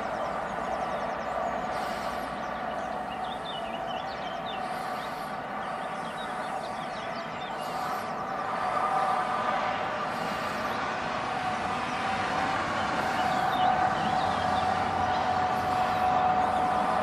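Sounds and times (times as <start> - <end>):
small birds chirping: 0.0 - 8.6, 10.1 - 17.0
distant road traffic: 0.0 - 17.0.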